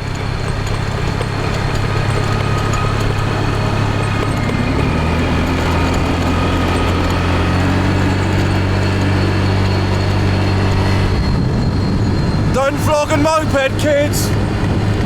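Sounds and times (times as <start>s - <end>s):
moped engine droning: 0.0s - 15.0s
wind and road noise: 0.0s - 15.0s.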